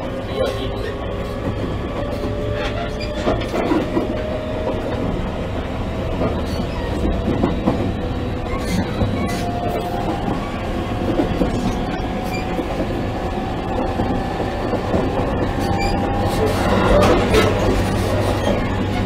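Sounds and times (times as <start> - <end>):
rail-joint clickety-clack: 0.0 - 19.0
train wheels rumbling on track: 0.0 - 19.0.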